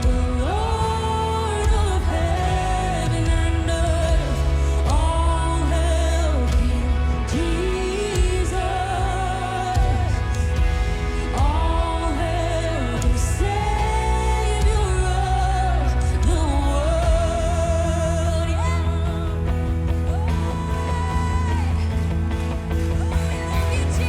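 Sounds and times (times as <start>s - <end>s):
person singing: 0.0s - 22.1s.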